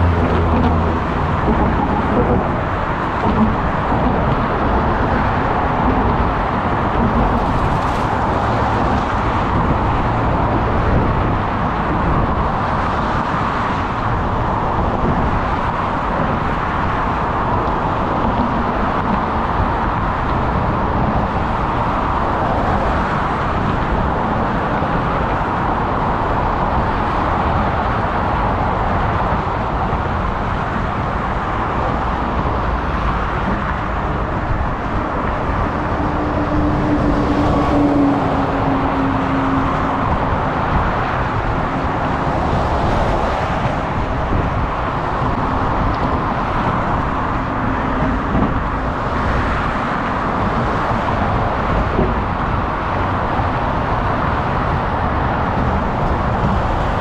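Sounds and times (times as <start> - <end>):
motor traffic passing: 0.0 - 57.0
wind on microphone: 0.0 - 57.0.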